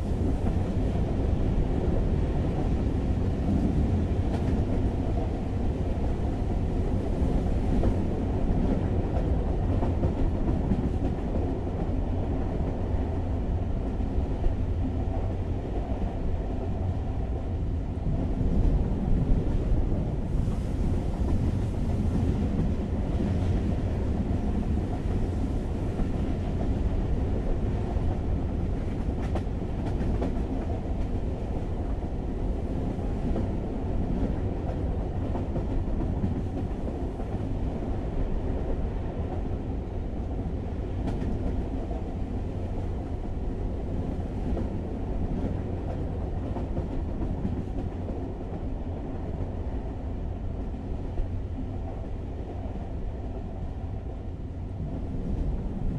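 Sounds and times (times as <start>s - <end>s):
moving train rumble: 0.0s - 55.9s.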